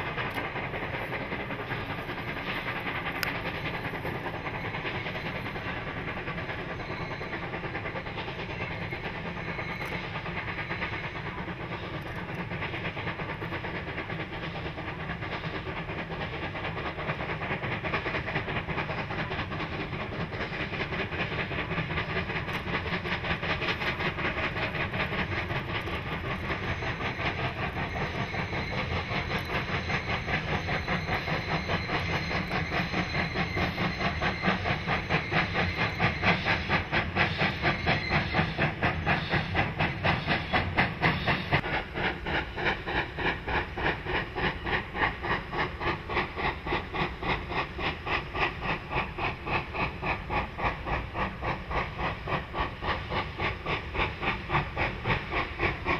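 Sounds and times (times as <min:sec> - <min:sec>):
steam hiss: 0:00.0 - 0:55.9
steam locomotive chuffing: 0:00.0 - 0:55.9.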